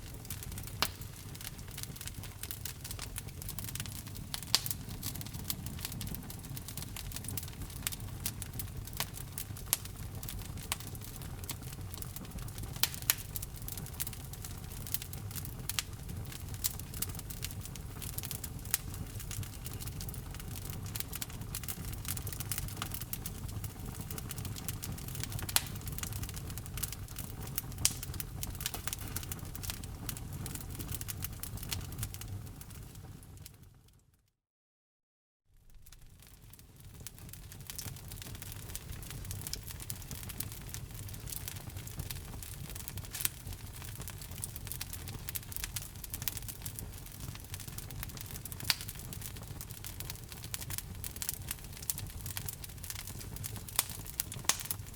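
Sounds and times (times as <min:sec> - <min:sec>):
burning wood crackling and popping: 0:00.0 - 0:33.6, 0:35.6 - 0:54.9
low rumble of flames: 0:00.0 - 0:34.0, 0:35.6 - 0:54.9.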